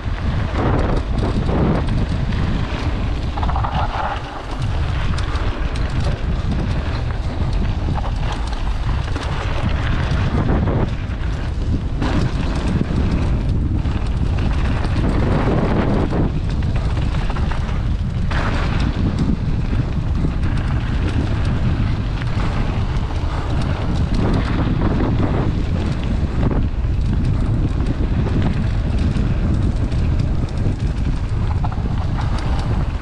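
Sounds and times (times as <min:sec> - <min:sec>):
tyres crackling on gravel: 0:00.0 - 0:33.0
wind rush on microphone: 0:00.0 - 0:33.0.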